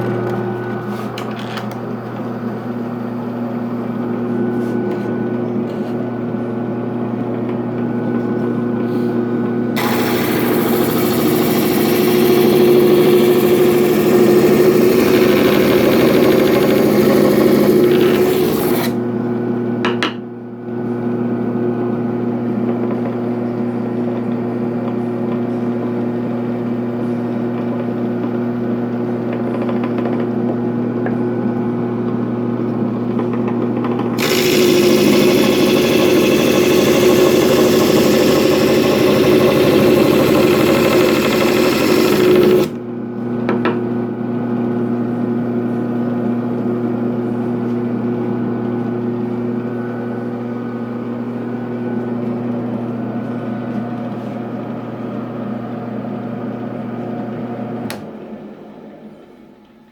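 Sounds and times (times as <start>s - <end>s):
drum sander motor humming: 0.0s - 19.8s, 25.3s - 58.3s.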